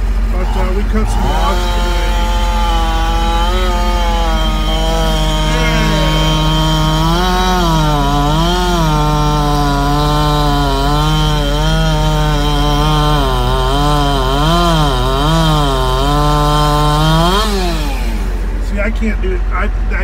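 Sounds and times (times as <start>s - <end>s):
chainsaw cutting wood: 1.0s - 18.6s.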